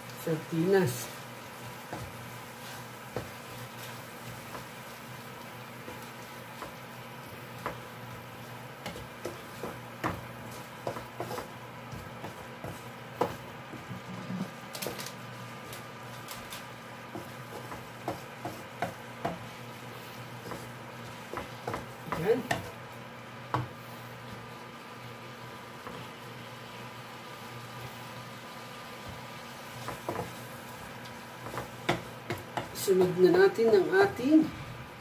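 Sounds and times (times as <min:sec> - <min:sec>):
faint sizzle: 0:00.0 - 0:35.0.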